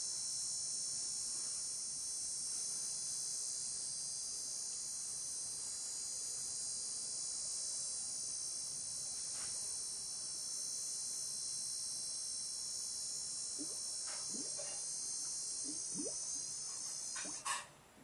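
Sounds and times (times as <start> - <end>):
insects chirring: 2.2 - 17.6.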